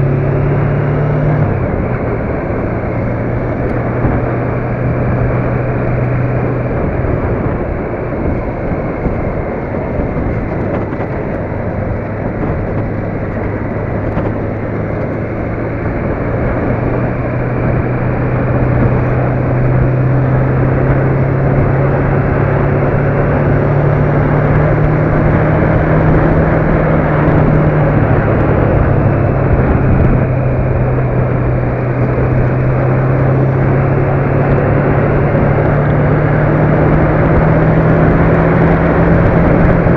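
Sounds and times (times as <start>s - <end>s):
tyre and road noise: 0.0s - 39.9s
vehicle engine drone: 0.0s - 39.9s.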